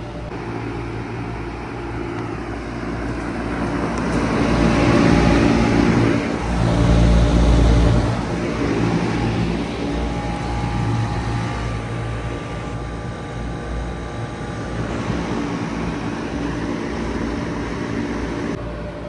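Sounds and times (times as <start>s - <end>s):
fan air rushing: 0.0s - 19.0s
heat pump humming: 0.0s - 19.0s.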